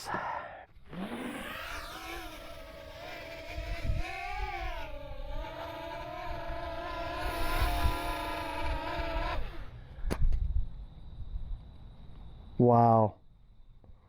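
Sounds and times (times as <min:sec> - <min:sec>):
drone motors whining: 0:00.0 - 0:12.5.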